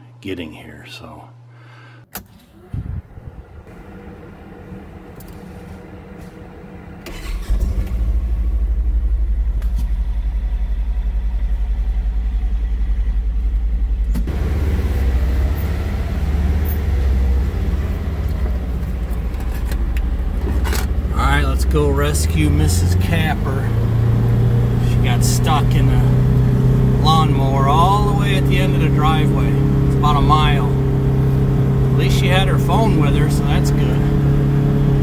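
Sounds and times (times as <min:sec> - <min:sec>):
vehicle engine starting and running: 0:02.1 - 0:35.0.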